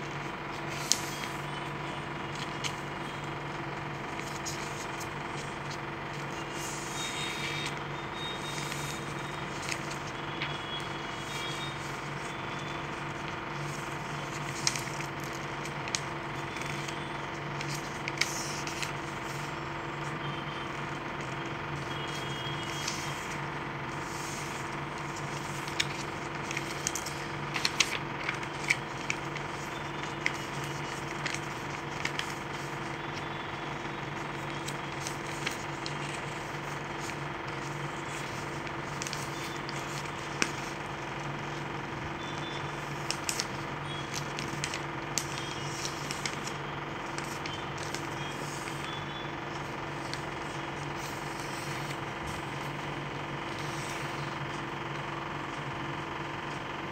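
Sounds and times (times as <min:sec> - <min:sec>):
paper crackling and rustling: 0:00.0 - 0:56.8.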